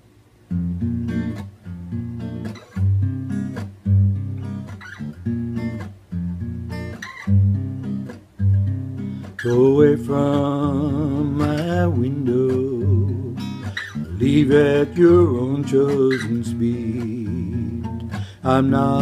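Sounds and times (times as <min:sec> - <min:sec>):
acoustic guitar strumming: 0:00.5 - 0:19.0.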